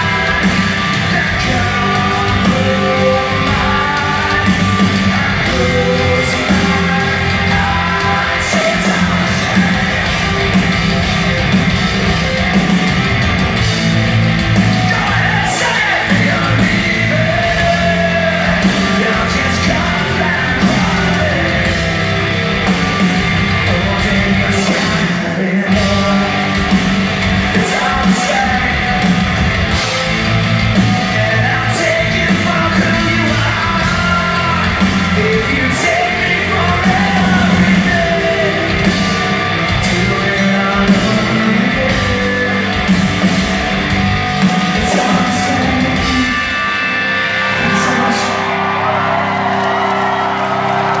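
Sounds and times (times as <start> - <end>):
person singing: 0.0 - 11.4, 14.6 - 30.0, 30.6 - 43.7, 44.4 - 48.8
crowd yelling and cheering: 0.0 - 51.0
live rock band playing: 0.0 - 51.0.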